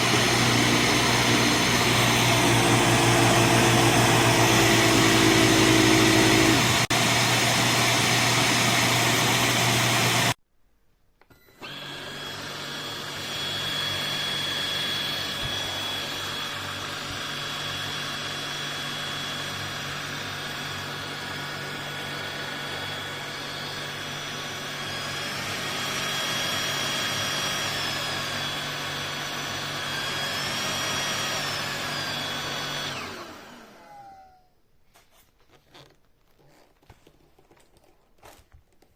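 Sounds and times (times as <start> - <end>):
handheld vacuum cleaner running: 0.0 - 10.4, 11.6 - 34.5.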